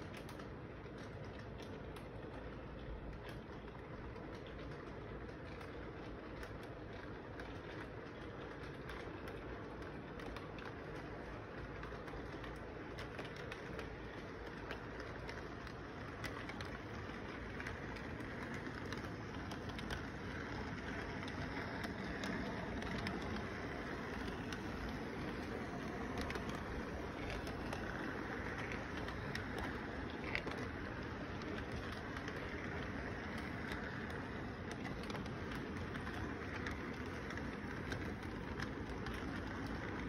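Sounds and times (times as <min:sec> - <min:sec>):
model train rumbling: 0:00.0 - 0:40.0.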